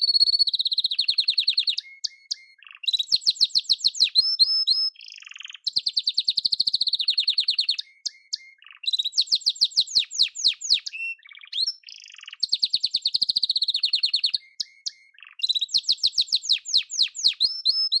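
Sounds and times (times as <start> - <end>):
canary singing trills and whistles: 0.0 - 18.0.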